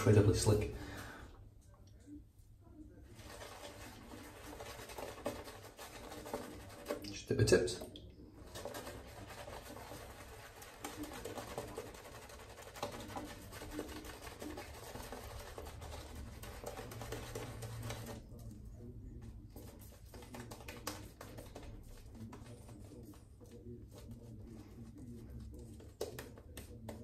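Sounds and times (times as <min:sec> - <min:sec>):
shaving brush lathering face: 0:03.1 - 0:27.0.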